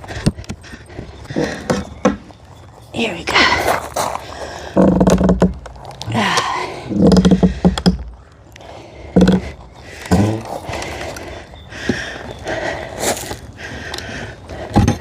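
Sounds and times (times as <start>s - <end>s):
wood creaking and groaning: 0.0s - 2.7s, 4.4s - 12.8s, 13.6s - 15.0s.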